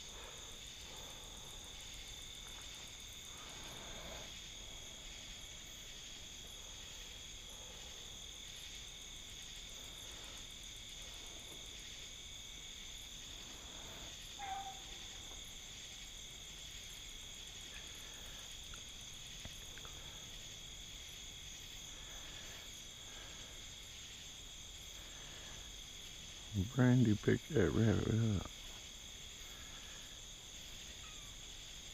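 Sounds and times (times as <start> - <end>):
crickets trilling: 0.0 - 31.9.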